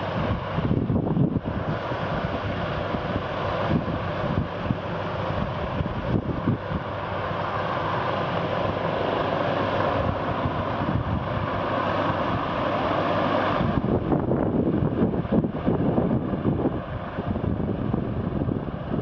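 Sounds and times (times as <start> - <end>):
helicopter engine and rotors: 0.0 - 19.0
wind buffeting microphone: 0.0 - 19.0.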